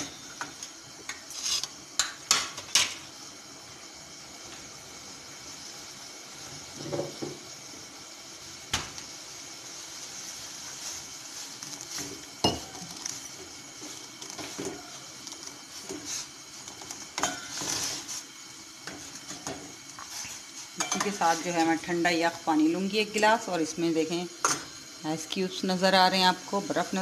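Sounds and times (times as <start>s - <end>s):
pot boiling with bubbling hiss: 0.0s - 27.0s.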